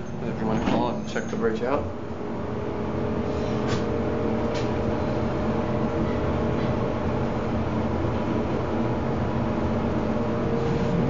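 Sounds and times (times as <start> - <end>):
elevator hum and rumble: 0.0 - 11.0.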